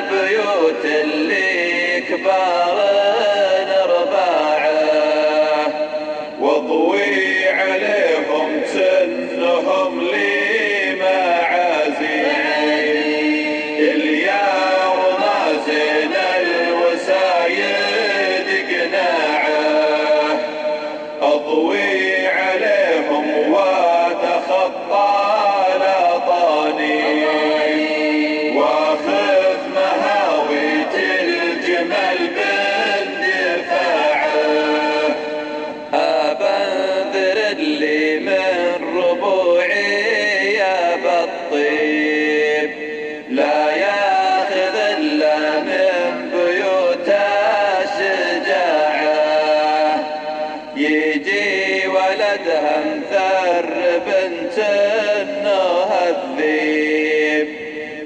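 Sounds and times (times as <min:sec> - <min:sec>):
man chanting unaccompanied: 0:00.0 - 0:58.0.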